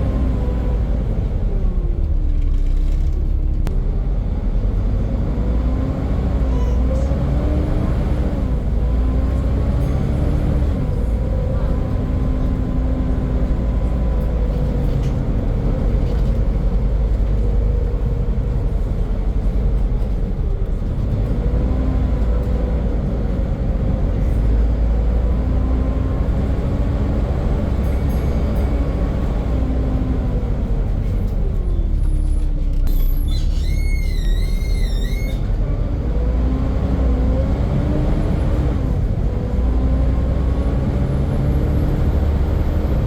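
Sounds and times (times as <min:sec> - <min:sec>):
bus engine rumble: 0:00.0 - 0:43.0.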